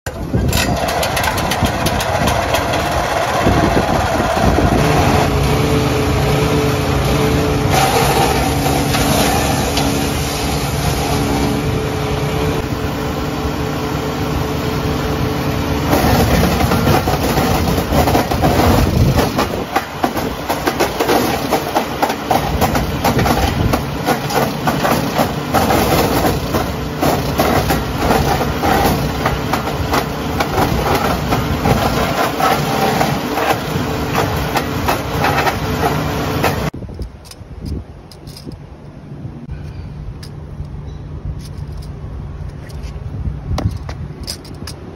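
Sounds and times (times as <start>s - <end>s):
petrol engine running: 0.1s - 36.8s
wood chipper crackling: 0.1s - 36.8s.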